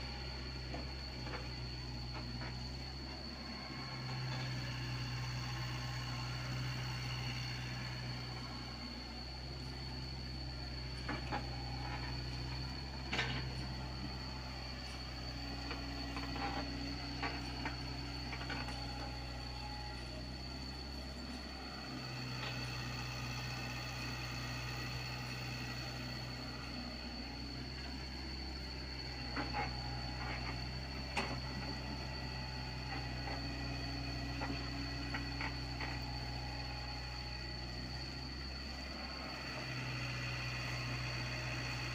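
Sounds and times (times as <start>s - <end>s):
excavator diesel engine working: 0.0s - 41.9s.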